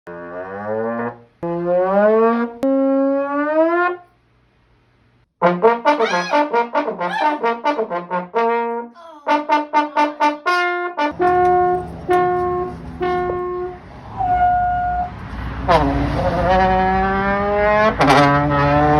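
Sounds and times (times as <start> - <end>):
brass instrument comic effects: 0.1 - 4.1, 5.4 - 15.1, 15.7 - 18.9.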